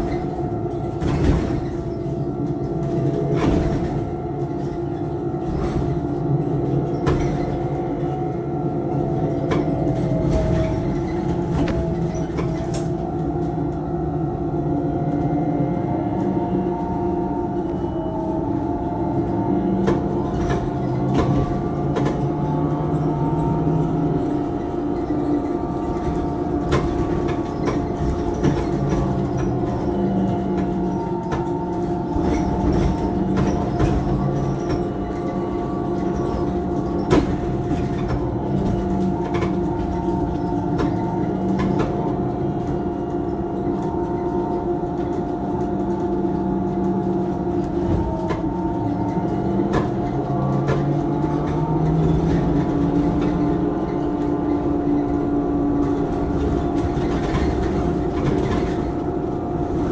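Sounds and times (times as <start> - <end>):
low road rumble: 0.0 - 59.9.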